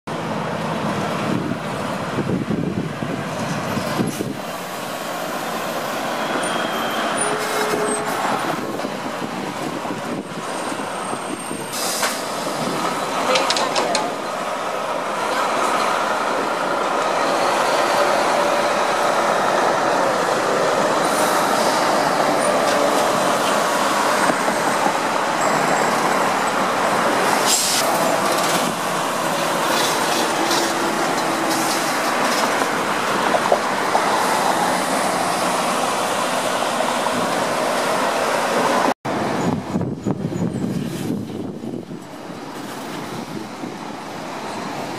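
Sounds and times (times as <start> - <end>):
trucks rolling past: 0.1 - 44.9.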